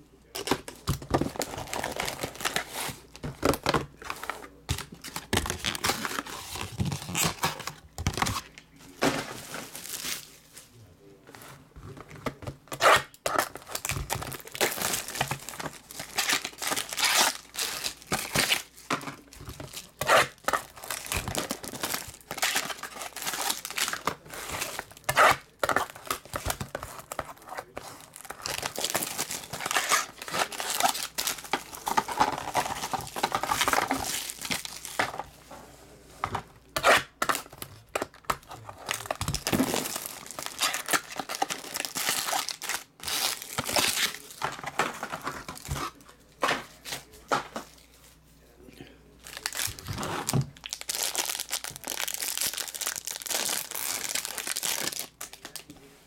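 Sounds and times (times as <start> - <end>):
plastic wrap crinkling and tearing: 0.0 - 10.8, 12.4 - 35.4, 36.7 - 48.0, 49.2 - 55.8.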